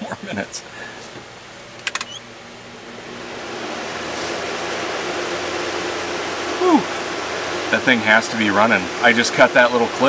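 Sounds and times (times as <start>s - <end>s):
electric fan rush of air: 0.0s - 10.0s
low steady hum: 0.0s - 10.0s.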